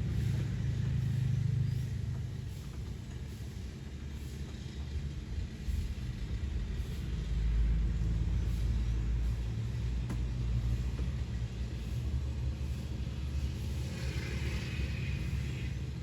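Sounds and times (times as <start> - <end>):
low motor vehicle rumble: 0.0 - 16.0.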